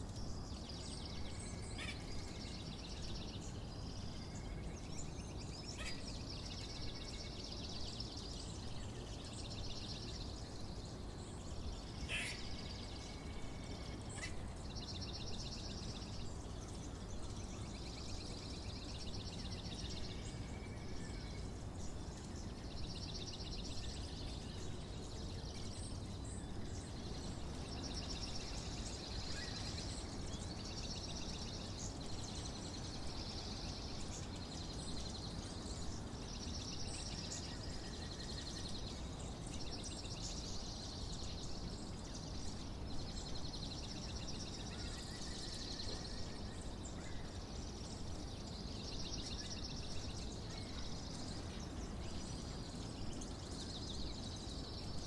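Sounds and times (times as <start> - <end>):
low background noise: 0.0 - 55.0
songbirds singing trills: 0.0 - 55.0.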